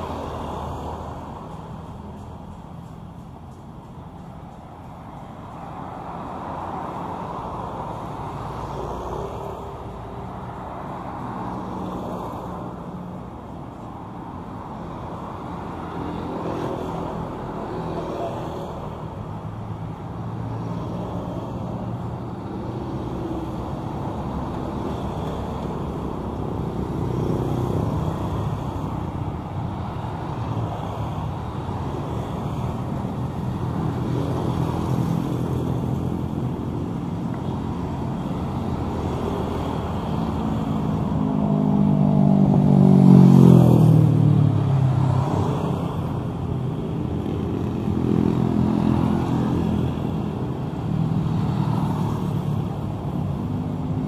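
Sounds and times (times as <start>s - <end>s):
cars and motorbikes passing: 0.0s - 54.0s.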